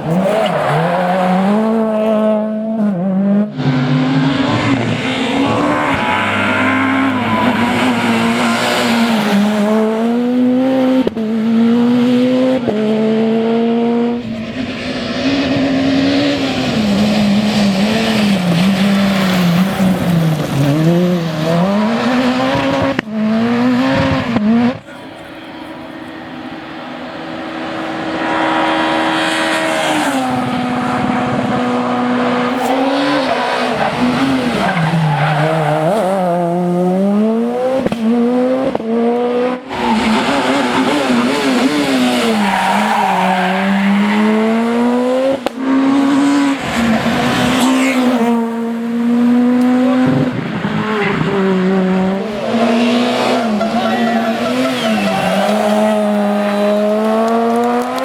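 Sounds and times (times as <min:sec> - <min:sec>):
rally car engines at full throttle: 0:00.0 - 0:58.0.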